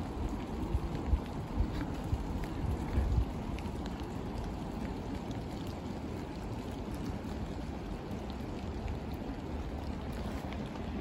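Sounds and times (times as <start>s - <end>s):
raindrops ticking: 0.0s - 11.0s
steady rain: 0.0s - 11.0s.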